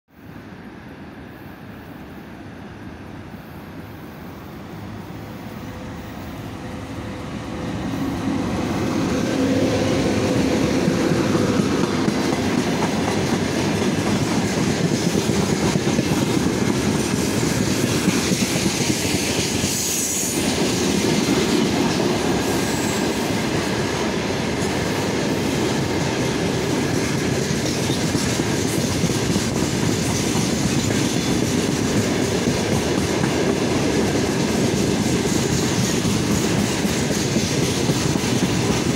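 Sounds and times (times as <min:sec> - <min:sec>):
electric locomotive passing: 0:00.1 - 0:38.9.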